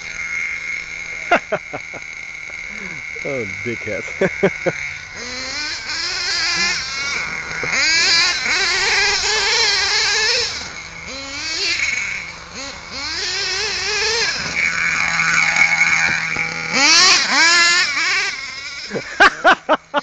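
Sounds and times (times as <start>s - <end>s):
nitro rc engine idling: 0.0s - 20.0s
nitro rc engine revving: 0.0s - 20.0s.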